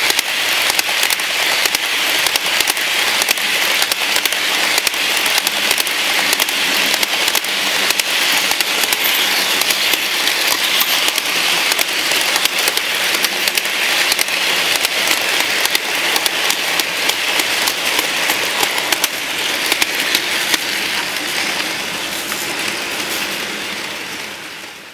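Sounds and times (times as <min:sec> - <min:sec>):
model train rolling on track: 0:00.0 - 0:24.9.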